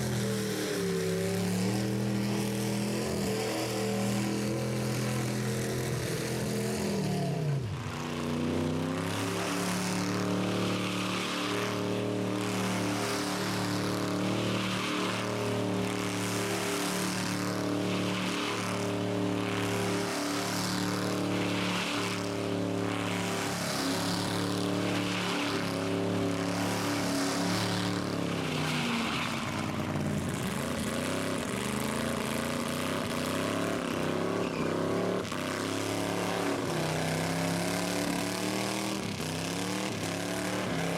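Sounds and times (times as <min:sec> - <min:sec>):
engine revving high: 0:00.0 - 0:40.9.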